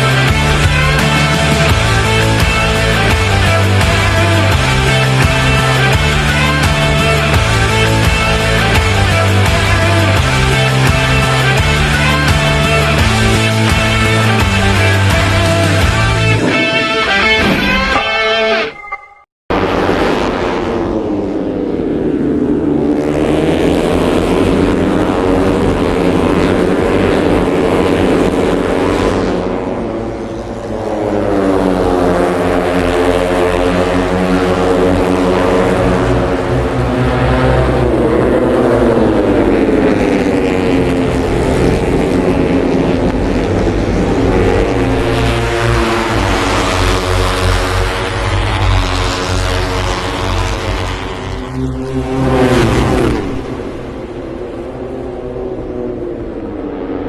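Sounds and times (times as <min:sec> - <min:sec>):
racing motorcycle engines revving: 0:00.0 - 0:18.4, 0:19.6 - 0:57.0.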